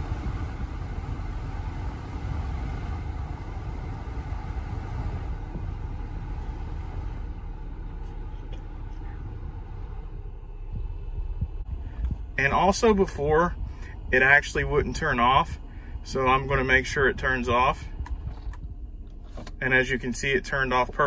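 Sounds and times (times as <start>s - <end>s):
blower fan rushing air from vent: 0.0s - 21.0s
low engine idle rumble: 0.0s - 21.0s.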